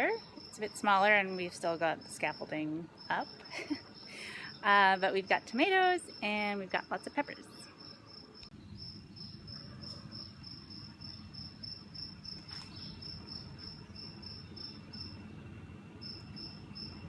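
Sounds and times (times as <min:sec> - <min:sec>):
cricket chirping: 0:00.0 - 0:15.3, 0:16.0 - 0:17.0.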